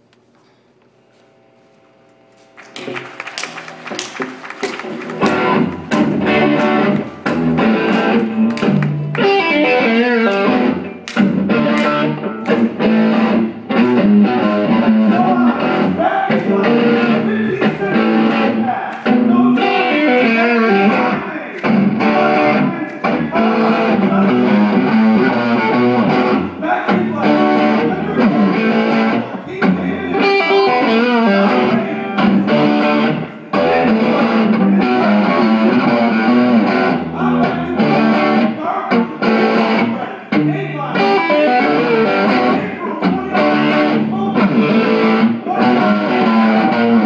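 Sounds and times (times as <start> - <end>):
electric guitar picking: 2.1 - 47.0.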